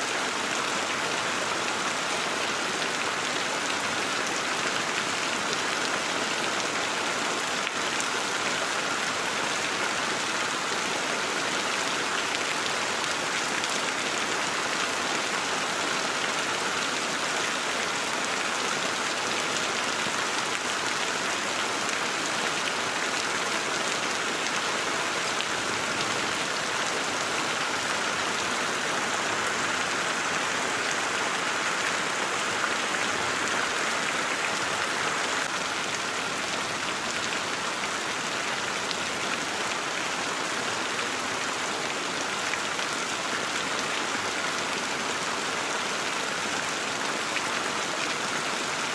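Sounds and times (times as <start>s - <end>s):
heavy rain on leaves: 0.0s - 48.9s.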